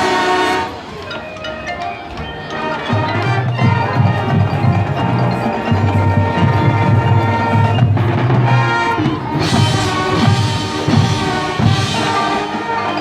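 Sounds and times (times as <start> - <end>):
mallet percussion ringing: 0.0 - 13.0
marching band playing: 0.0 - 13.0.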